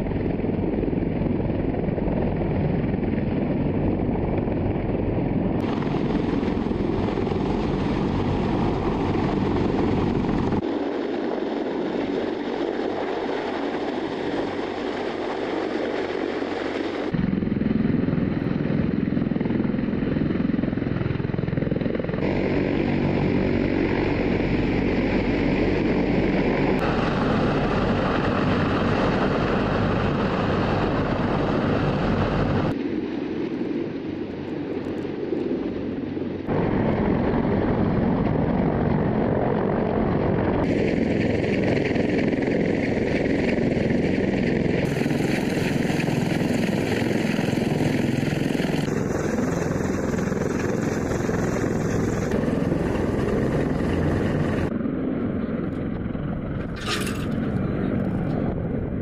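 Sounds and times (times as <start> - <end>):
helicopter rotor and engines: 0.0 - 59.0.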